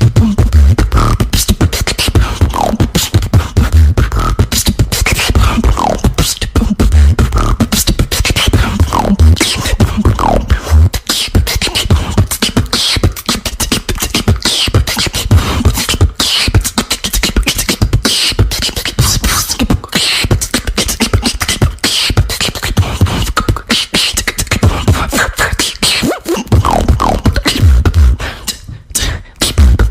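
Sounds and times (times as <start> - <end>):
person beatboxing: 0.0 - 29.9.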